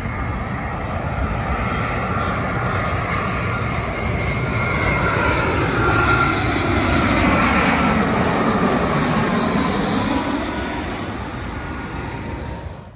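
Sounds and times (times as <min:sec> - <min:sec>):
jet airliner passing overhead: 0:00.0 - 0:12.9.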